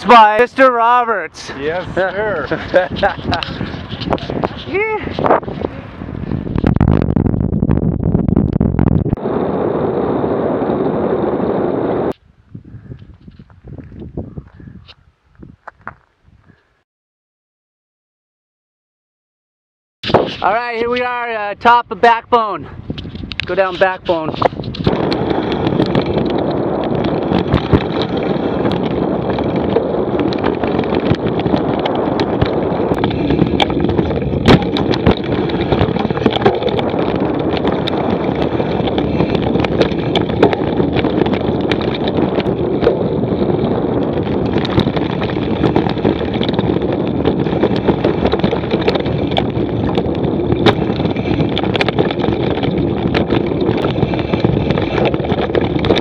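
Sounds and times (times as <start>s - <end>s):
bike rattling over trail: 0.0s - 12.1s, 22.8s - 56.0s
wind noise on microphone: 0.0s - 16.8s, 20.0s - 56.0s.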